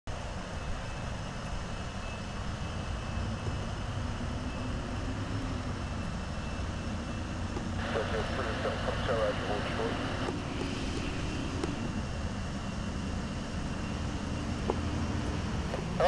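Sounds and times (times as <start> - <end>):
distant jet engines rumbling: 0.1 - 16.0
faint high whine: 0.1 - 16.0.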